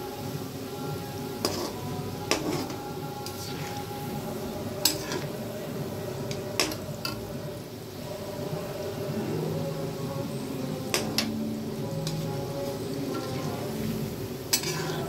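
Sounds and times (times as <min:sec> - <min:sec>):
dough deep-frying in hot oil: 0:00.0 - 0:15.0.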